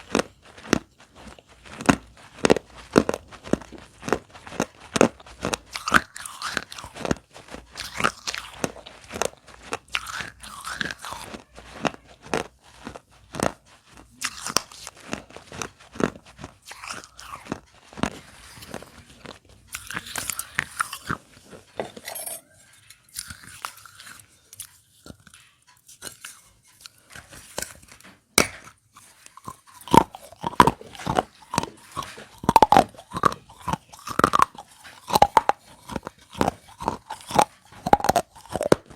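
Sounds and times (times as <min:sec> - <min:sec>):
clay pot pieces crunching: 0:00.0 - 0:38.9.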